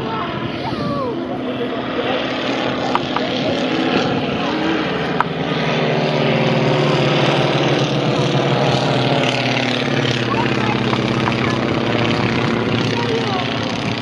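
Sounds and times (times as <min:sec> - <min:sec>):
propeller planes droning overhead: 0:00.0 - 0:14.0.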